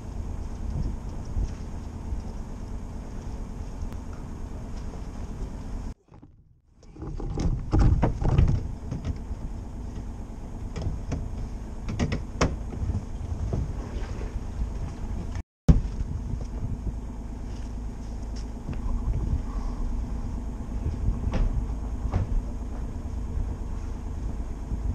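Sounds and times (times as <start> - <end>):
footsteps and line handling knocks: 0.0 - 24.9
steady low rumble: 0.0 - 24.9.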